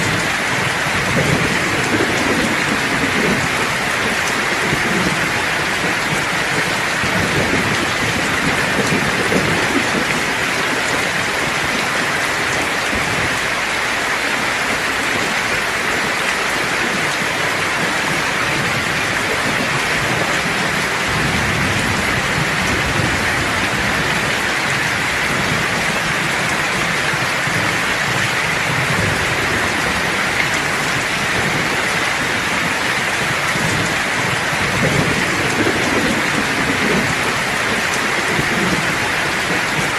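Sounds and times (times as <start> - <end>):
distant thunder rumbles: 0.0 - 39.9
rain pouring: 0.0 - 39.9.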